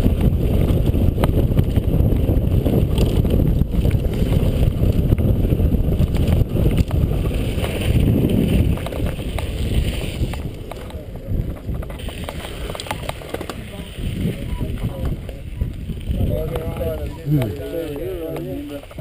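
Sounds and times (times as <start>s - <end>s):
bike rattling and clicking: 0.0s - 19.0s
bike tyres rolling on gravel: 0.0s - 19.0s
wind buffeting microphone: 0.0s - 19.0s.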